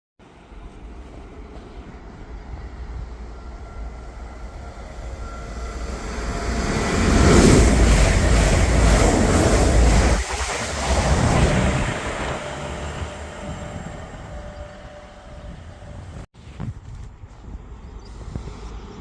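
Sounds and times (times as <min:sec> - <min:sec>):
train rumbling past: 0:00.2 - 0:16.3.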